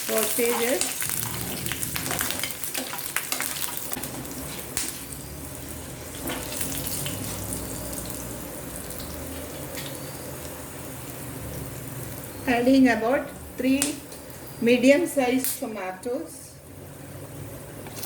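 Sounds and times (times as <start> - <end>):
spices sizzling in oil: 0.0 - 16.6.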